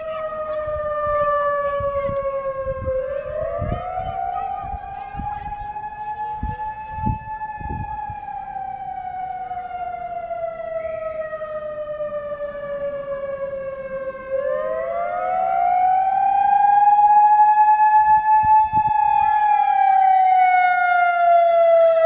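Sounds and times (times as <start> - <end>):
electronic siren wailing: 0.0 - 22.0
faint second siren tone: 0.0 - 22.0.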